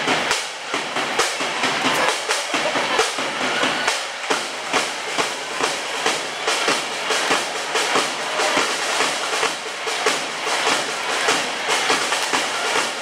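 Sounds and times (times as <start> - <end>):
arena crowd noise: 0.0 - 13.0
steady drumbeat with music: 0.0 - 13.0.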